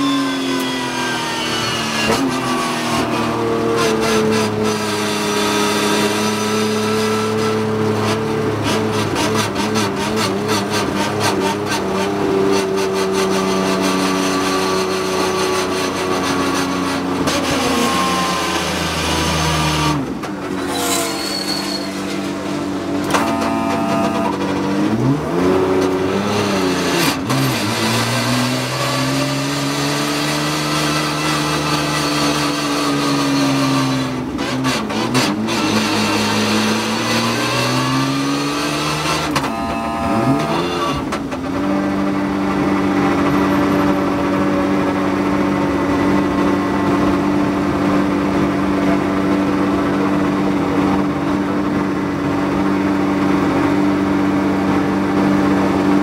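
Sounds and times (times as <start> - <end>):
car engine heard from cockpit: 0.0 - 20.9, 22.1 - 56.0.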